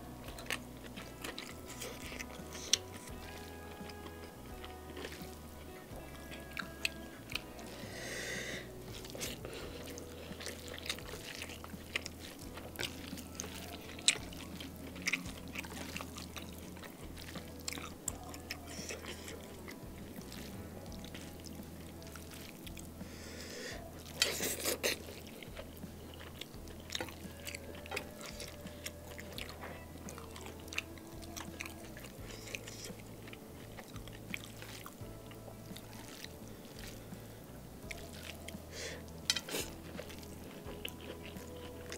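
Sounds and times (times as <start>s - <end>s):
close chewing with mouth clicks: 0.0s - 41.9s
lip smacks: 0.0s - 41.9s.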